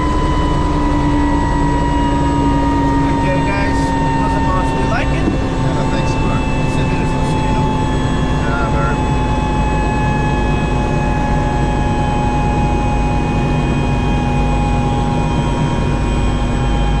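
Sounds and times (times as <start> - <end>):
helicopter turbine and rotor: 0.0 - 17.0.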